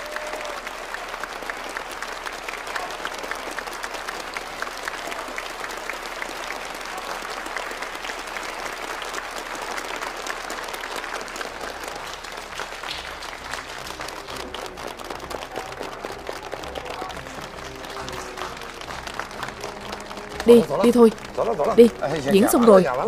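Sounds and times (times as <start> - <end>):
large audience applauding: 0.0 - 23.0.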